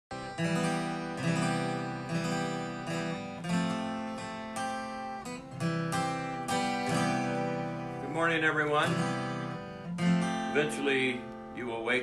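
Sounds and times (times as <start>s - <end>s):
acoustic guitar strumming: 0.1s - 12.0s.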